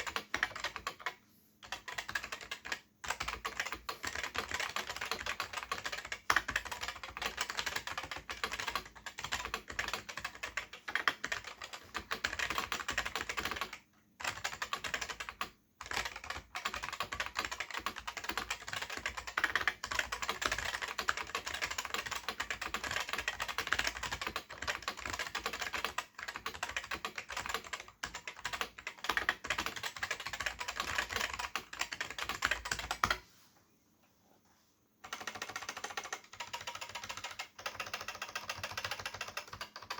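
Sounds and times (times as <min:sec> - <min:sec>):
fast keyboard typing: 0:00.0 - 0:33.2, 0:35.0 - 0:39.9.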